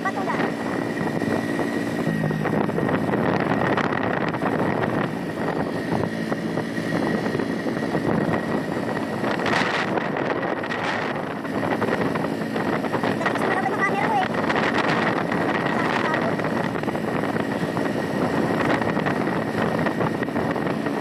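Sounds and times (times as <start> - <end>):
scooter engine drone: 0.0 - 21.0
wind rushing over microphone: 0.0 - 21.0.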